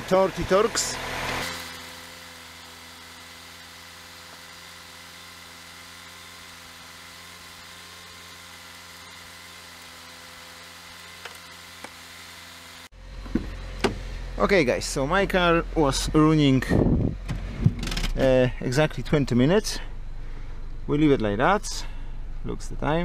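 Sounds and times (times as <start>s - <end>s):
car engine idling: 0.0s - 7.6s, 8.5s - 23.0s.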